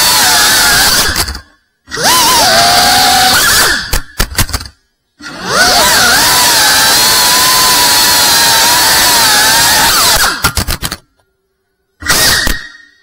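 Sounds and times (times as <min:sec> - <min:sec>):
drone motors whining: 0:00.0 - 0:04.2, 0:05.2 - 0:13.0.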